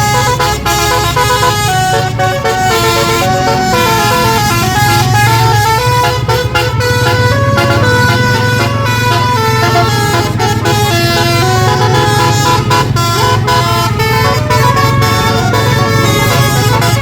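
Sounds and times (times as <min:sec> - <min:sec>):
bus horn playing a melody: 0:00.0 - 0:17.0.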